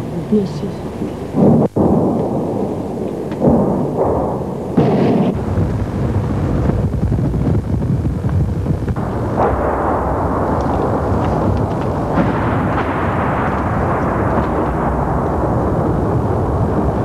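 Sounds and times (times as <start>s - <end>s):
heavy artillery rumble: 0.0s - 17.0s
artillery booms: 0.9s - 17.0s.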